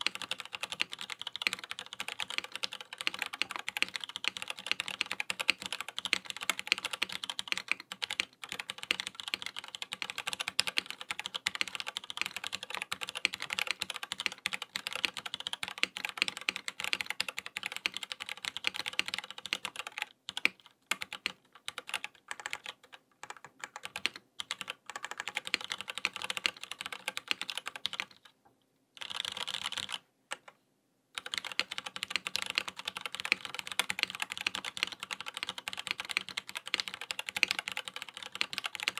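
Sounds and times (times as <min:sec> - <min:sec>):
mechanical keyboard typing: 0:00.0 - 0:28.3, 0:29.0 - 0:30.6, 0:31.2 - 0:38.9.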